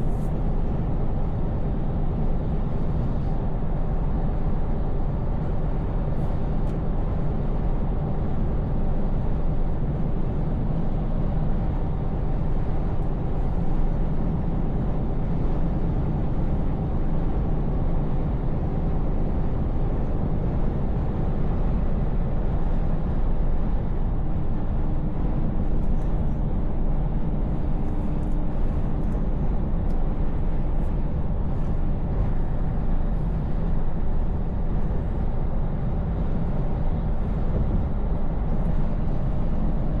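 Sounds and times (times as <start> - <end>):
road noise: 0.0 - 40.0
truck diesel engine rumble: 0.0 - 40.0.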